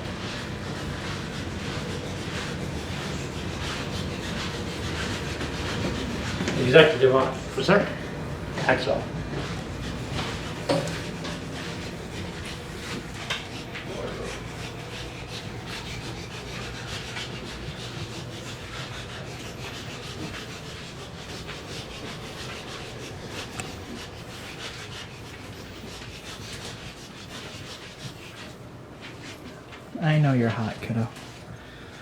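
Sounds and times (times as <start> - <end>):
rubbing and rustling on microphone: 0.0 - 31.5.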